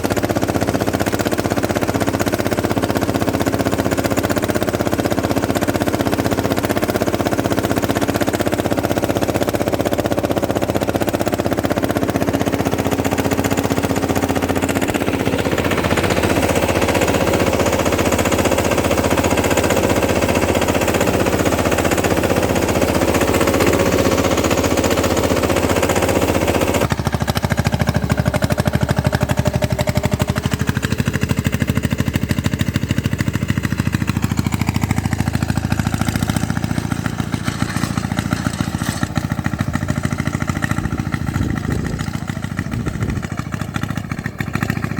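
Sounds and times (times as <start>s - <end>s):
tractor engine pulsing: 0.0s - 44.9s.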